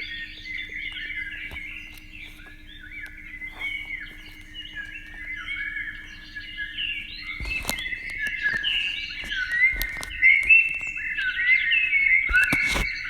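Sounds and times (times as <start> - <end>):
birds chirping in chorus: 0.0 - 13.0.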